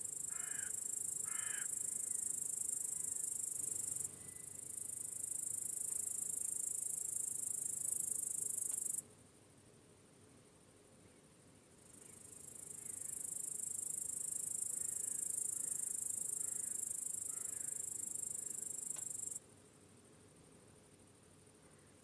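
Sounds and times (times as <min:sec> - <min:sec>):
crickets chirping: 0:00.0 - 0:09.0, 0:11.7 - 0:22.0.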